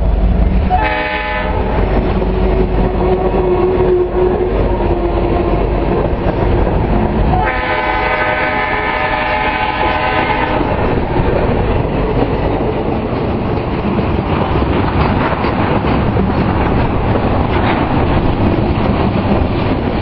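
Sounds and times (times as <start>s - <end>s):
train wheels rumbling on rails: 0.0s - 20.0s
wheels clacking over rail joints: 0.0s - 20.0s.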